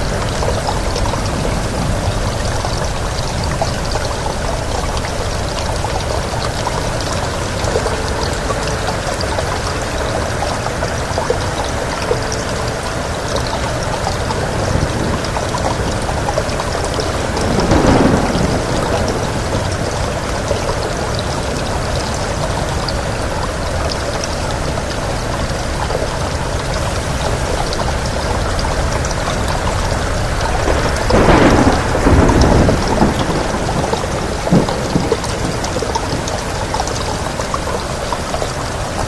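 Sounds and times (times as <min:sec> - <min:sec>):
thunder rolling: 0:00.0 - 0:22.6, 0:27.3 - 0:37.5
heavy rain: 0:00.0 - 0:39.0
wind: 0:00.0 - 0:39.0.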